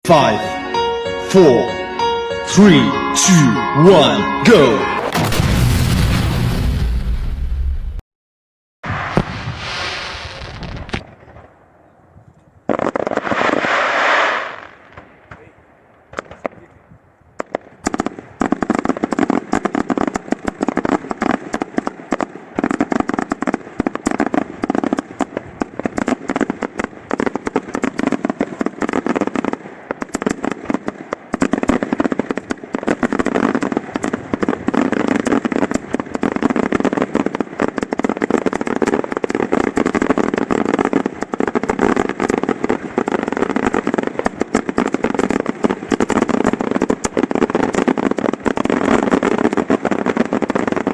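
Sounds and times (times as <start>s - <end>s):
fireworks launching and bursting: 1.3s - 8.0s, 8.8s - 12.0s, 12.6s - 50.9s.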